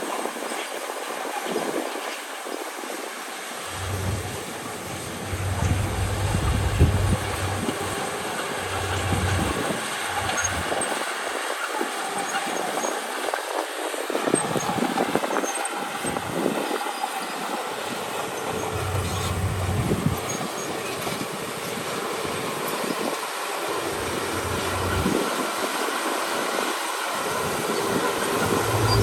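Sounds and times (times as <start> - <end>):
steel tracks clanking and rattling: 3.4 - 29.0
bulldozer diesel engine running: 3.6 - 13.2, 13.8 - 29.0.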